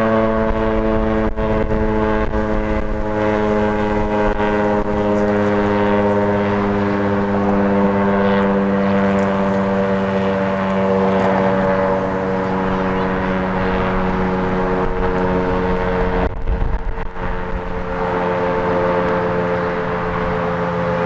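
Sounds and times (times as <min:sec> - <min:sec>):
warning siren steady tone: 0:00.0 - 0:21.0
wind buffeting microphone: 0:00.0 - 0:21.0.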